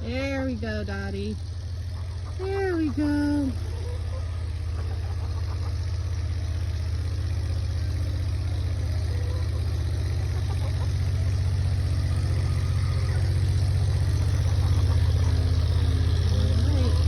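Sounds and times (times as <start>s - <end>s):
pulsing low rumble: 0.0s - 17.0s.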